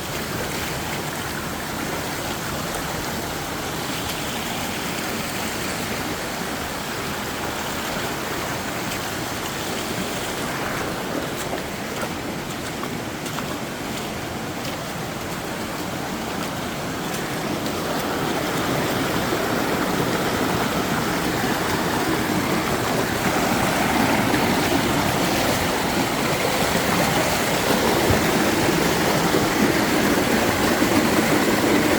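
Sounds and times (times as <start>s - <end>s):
stream water rushing over rocks: 0.0s - 31.9s.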